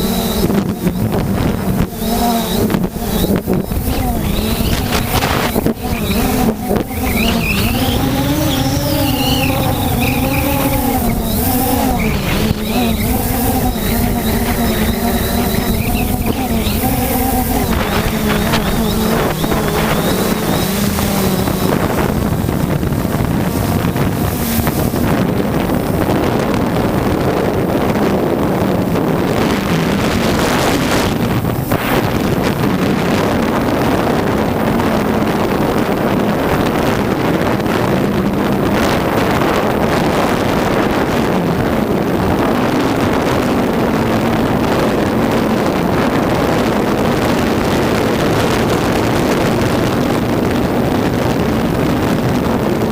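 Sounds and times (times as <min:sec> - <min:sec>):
drone propellers humming: 0:00.0 - 0:52.9
wind buffeting microphone: 0:00.0 - 0:52.9.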